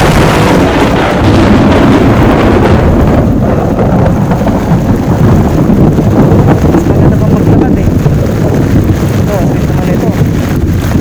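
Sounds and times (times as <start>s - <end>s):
heavy rain: 0.0s - 11.0s
wind buffeting microphone: 0.0s - 11.0s.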